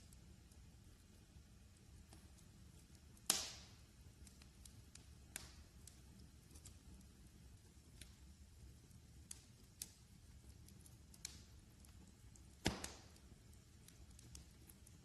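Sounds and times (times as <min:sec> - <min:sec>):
low steady background: 0:00.0 - 0:15.0
wood fire crackling: 0:00.0 - 0:15.0.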